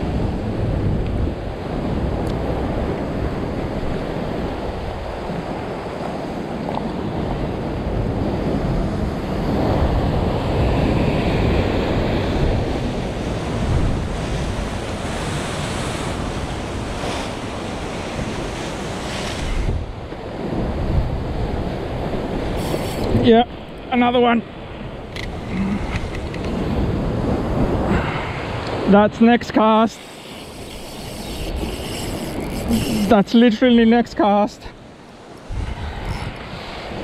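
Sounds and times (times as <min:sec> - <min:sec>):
wind buffeting microphone: 0:00.0 - 0:28.9, 0:29.8 - 0:37.0
waves breaking against rock: 0:01.8 - 0:37.0.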